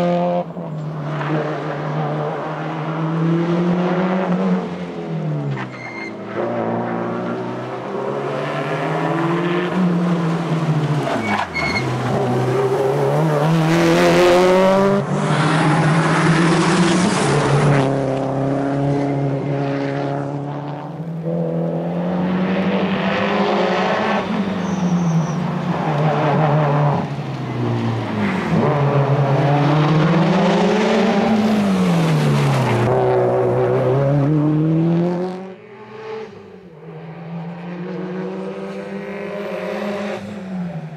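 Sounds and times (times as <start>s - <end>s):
rally car engine revving: 0.0s - 36.3s, 37.0s - 40.9s.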